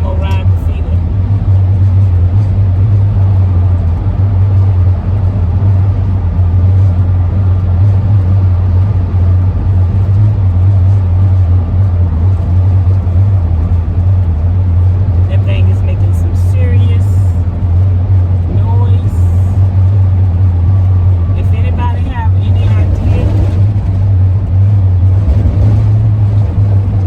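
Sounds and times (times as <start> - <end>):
low droning howl of wind: 0.0 - 27.0
wind and road rush: 0.0 - 27.0.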